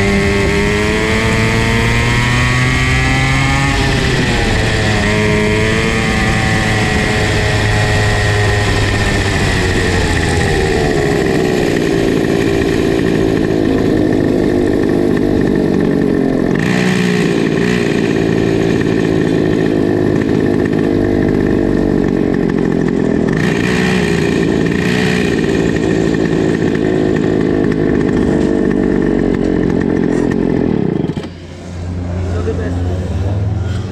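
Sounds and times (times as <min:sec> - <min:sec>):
kart engine revving and idling: 0:00.0 - 0:33.9.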